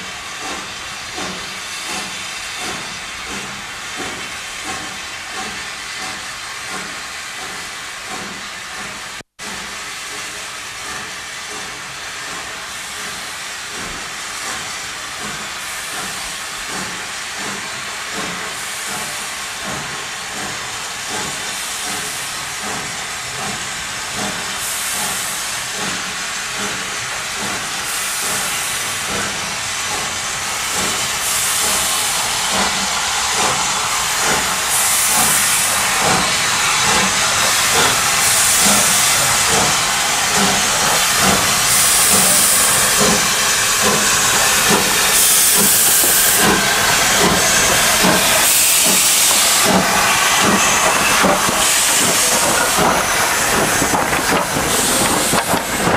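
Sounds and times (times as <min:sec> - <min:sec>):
steam hissing: 0:00.0 - 0:55.9
steam locomotive exhaust beat: 0:00.0 - 0:55.9.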